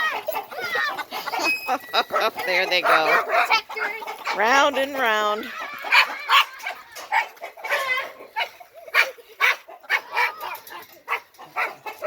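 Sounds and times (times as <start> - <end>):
chickens squawking and clucking: 0.0 - 10.6.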